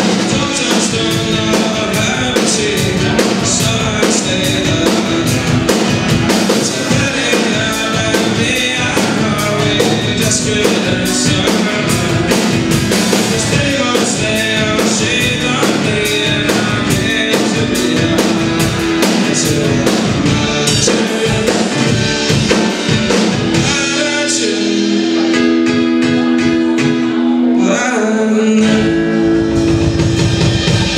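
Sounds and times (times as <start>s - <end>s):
drum kit beat: 0.0s - 27.8s, 28.5s - 30.9s
acoustic guitar chords: 0.0s - 30.9s.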